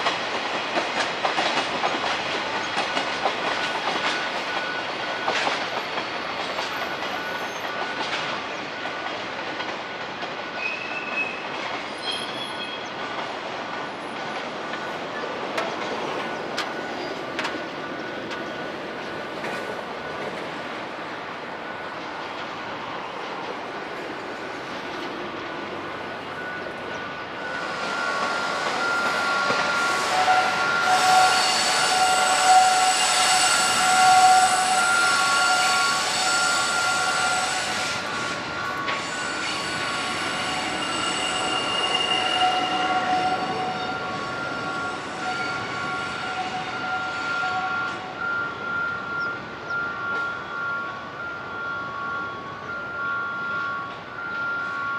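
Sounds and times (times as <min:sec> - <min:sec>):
locomotive wheels squealing: 0:02.6 - 0:09.0, 0:10.5 - 0:20.5, 0:24.9 - 0:54.9.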